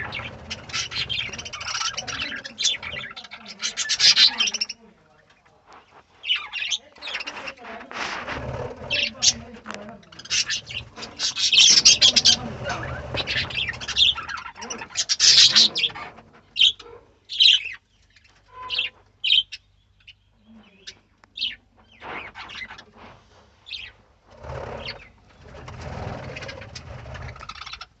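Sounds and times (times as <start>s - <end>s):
budgerigars chattering and chirping: 0.0s - 5.0s, 5.9s - 28.0s.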